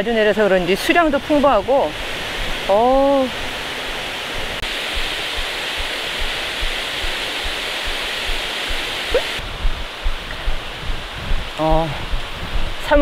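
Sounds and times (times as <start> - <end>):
stream rushing over rocks: 0.1 - 13.0.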